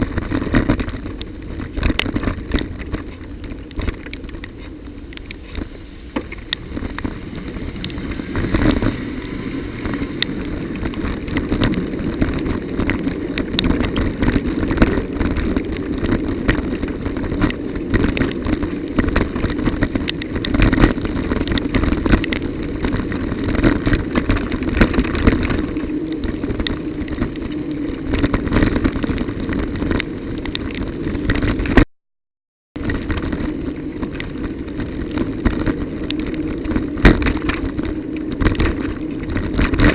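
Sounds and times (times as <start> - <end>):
bicycle rumbling on rough road: 0.0 - 31.9, 32.8 - 39.9
bike rattling and knocking: 0.0 - 31.9, 32.8 - 39.9.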